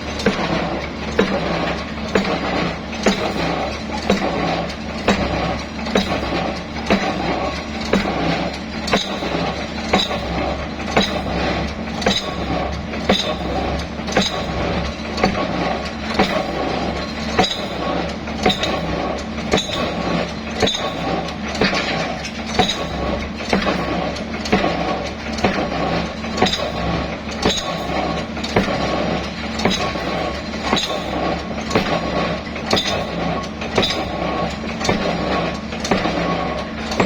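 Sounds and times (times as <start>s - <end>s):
excavator engine drone: 0.0s - 37.0s
sharp metallic clanks: 0.0s - 37.0s.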